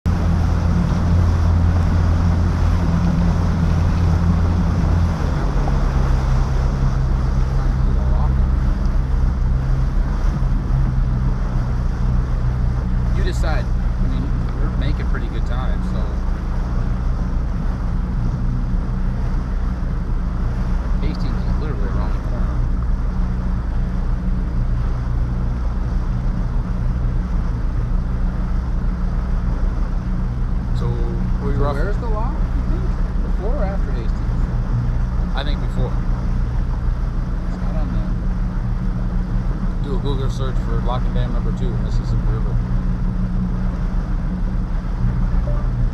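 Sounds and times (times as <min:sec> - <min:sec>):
boat engine running: 0:00.0 - 0:45.9
water noise: 0:00.0 - 0:45.9
wind: 0:00.0 - 0:45.9.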